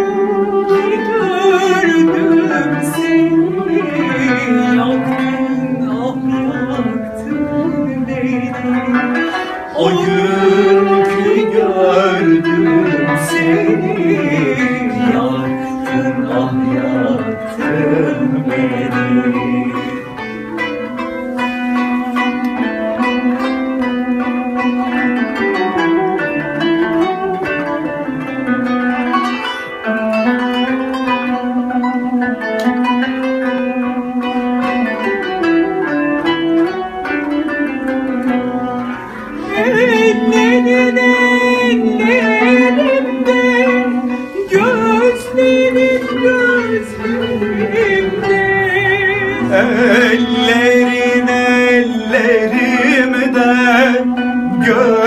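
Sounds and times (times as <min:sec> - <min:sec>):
plucked zither strings: 0:00.0 - 0:55.0
reedy wind instrument melody: 0:00.0 - 0:55.0
wavering melody line: 0:00.0 - 0:55.0.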